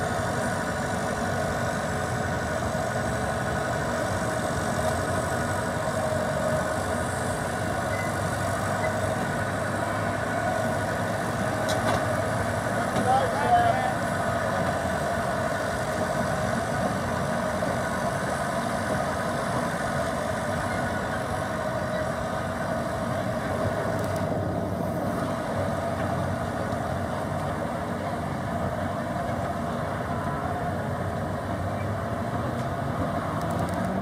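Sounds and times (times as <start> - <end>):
diesel engine under load: 0.0 - 34.0.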